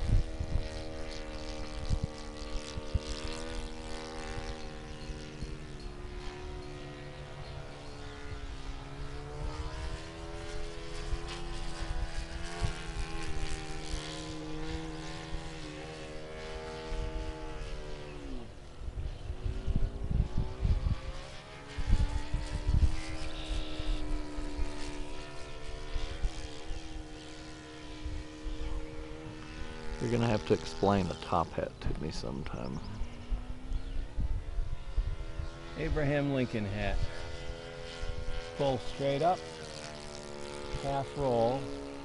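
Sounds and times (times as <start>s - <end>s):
model airplane engine drone: 0.0s - 42.0s.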